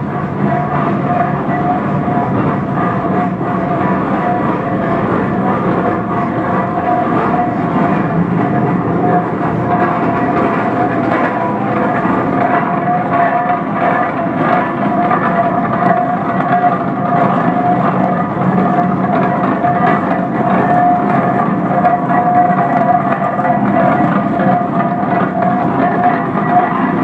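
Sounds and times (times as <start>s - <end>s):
steady whine: 0.0s - 27.0s
tractor engine clatter: 0.0s - 27.0s.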